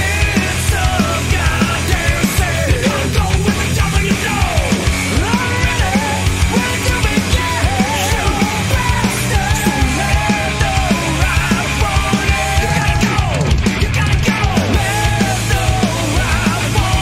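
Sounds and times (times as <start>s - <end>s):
driving drum beat: 0.0s - 17.0s
heavy rock music: 0.0s - 17.0s
wavering lead guitar line: 0.0s - 17.0s.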